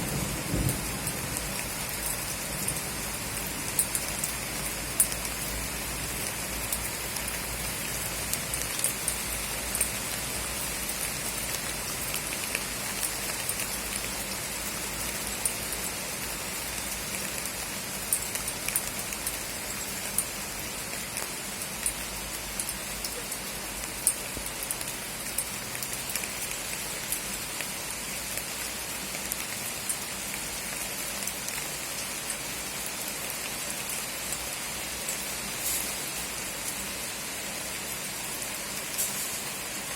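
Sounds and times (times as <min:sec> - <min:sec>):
heavy rain hissing: 0:00.0 - 0:24.4, 0:31.7 - 0:39.9
raindrops tapping close by: 0:00.0 - 0:37.1.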